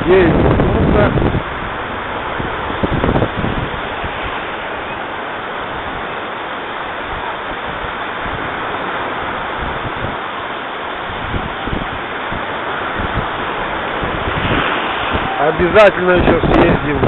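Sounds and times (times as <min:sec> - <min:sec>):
surf washing on beach: 0:00.0 - 0:17.0.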